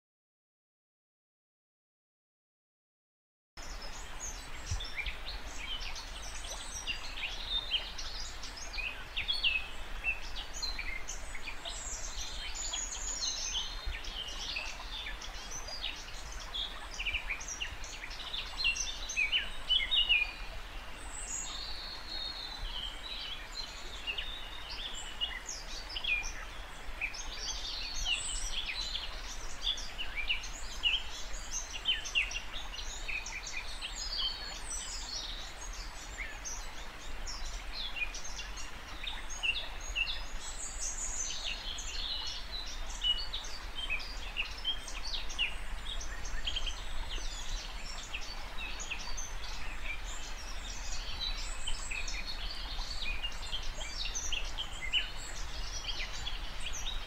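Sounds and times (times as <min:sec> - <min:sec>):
songbirds chirping and trilling: 0:03.6 - 0:57.0.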